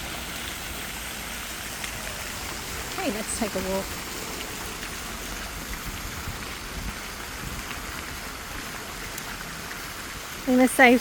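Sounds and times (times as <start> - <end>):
water feature splashing: 0.0 - 11.0.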